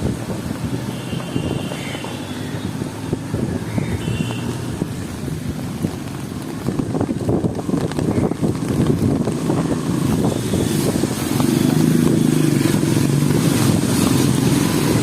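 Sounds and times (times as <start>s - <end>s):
faint rain: 0.0s - 15.0s
street noise: 0.0s - 15.0s
wind buffeting microphone: 0.0s - 15.0s.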